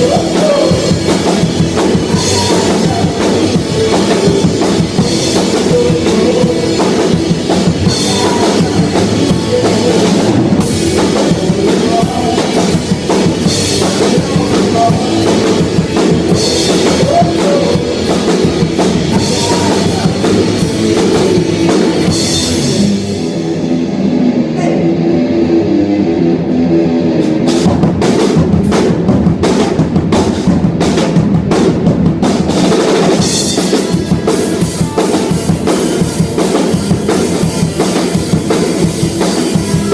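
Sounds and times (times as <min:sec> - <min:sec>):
hard repeated drum hits: 0:00.0 - 0:23.0, 0:27.3 - 0:39.9
live rock band playing: 0:00.0 - 0:39.9.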